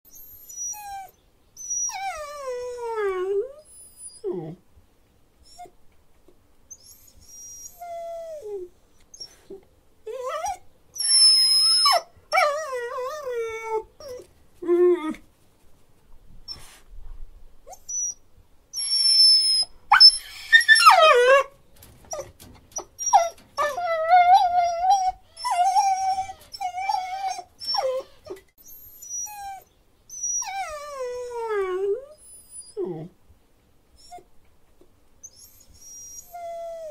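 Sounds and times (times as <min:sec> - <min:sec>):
dog whining: 0:00.1 - 0:04.6, 0:06.7 - 0:15.2, 0:17.7 - 0:18.2, 0:18.8 - 0:33.2, 0:35.2 - 0:36.9.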